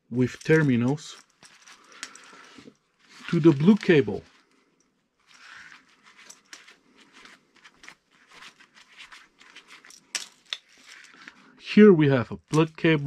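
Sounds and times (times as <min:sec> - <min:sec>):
gloved hands rustling wires: 0:00.0 - 0:11.6.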